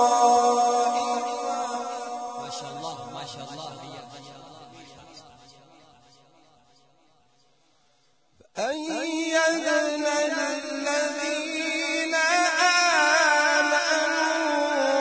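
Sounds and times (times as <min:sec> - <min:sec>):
man reciting melodically: 0:00.0 - 0:05.8, 0:08.4 - 0:15.0.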